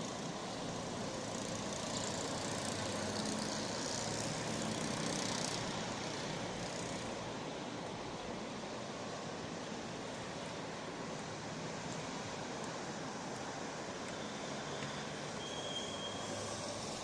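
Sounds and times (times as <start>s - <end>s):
steady rushing outdoor noise: 0.0s - 17.0s.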